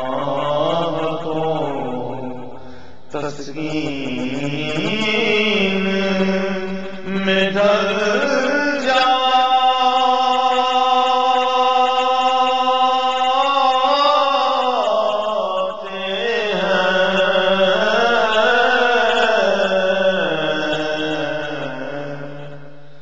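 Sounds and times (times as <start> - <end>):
man singing chant-like: 0.0 - 22.8.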